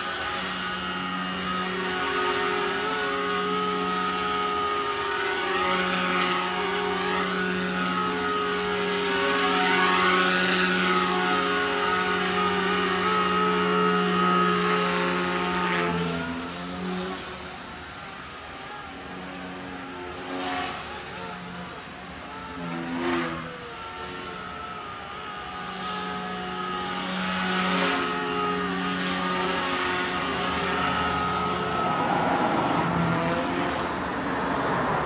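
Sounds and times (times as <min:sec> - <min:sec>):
rc helicopter rotor buzz and whine: 0:00.0 - 0:35.0.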